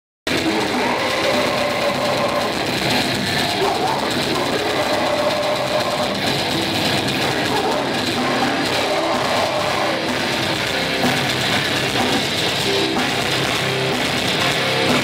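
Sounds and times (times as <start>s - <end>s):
distorted electric guitars: 0.2s - 15.0s
fast drumming: 0.3s - 15.0s.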